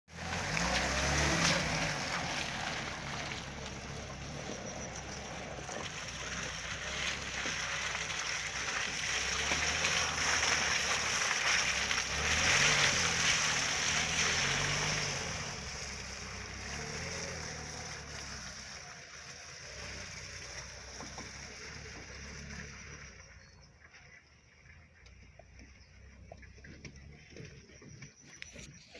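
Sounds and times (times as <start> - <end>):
car engine revving: 0.1 - 23.5
tyres splashing through puddles: 0.1 - 28.9.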